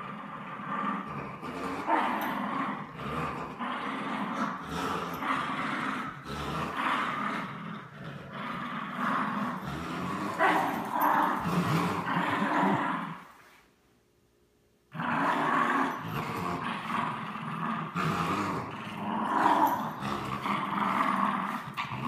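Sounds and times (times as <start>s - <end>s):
dogs growling in play: 0.0s - 13.7s, 14.9s - 22.0s.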